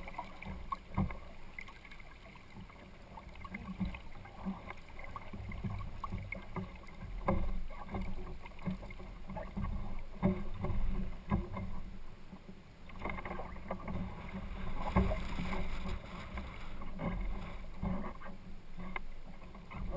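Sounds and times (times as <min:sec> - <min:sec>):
water slapping against hull: 0:00.0 - 0:19.9.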